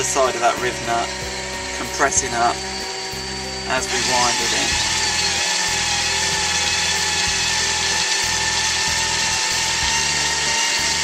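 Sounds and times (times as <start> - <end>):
electric drill running: 0.0 - 11.0.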